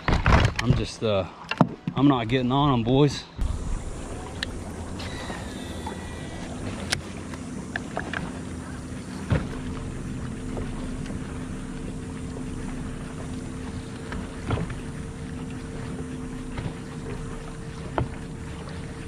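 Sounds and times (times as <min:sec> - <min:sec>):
wind: 0:00.0 - 0:19.0
water noise: 0:01.8 - 0:19.0
electric trolling motor humming: 0:03.4 - 0:19.0.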